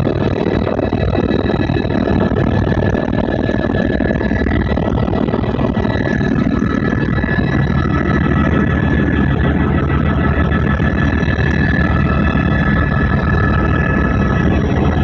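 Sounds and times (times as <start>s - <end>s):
helicopter rotor and engine drone: 0.0s - 15.0s
high-pitched whines: 0.0s - 15.0s.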